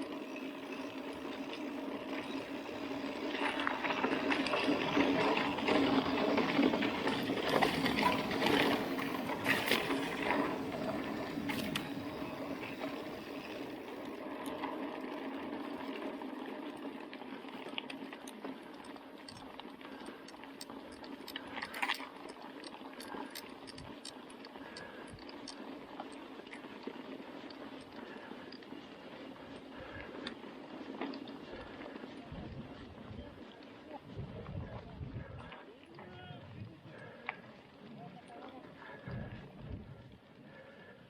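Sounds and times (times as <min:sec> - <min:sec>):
bike rattling and clicking: 0:00.0 - 0:41.0
bike tyres on dirt road: 0:00.0 - 0:41.0.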